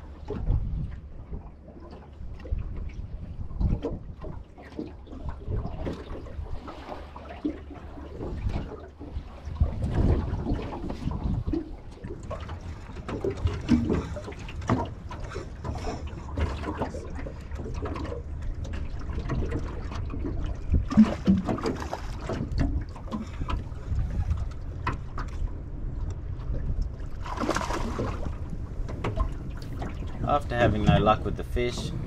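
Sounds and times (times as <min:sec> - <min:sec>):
low wind rumble on microphone: 0:00.0 - 0:32.0
water lapping against boat hull: 0:00.0 - 0:32.0.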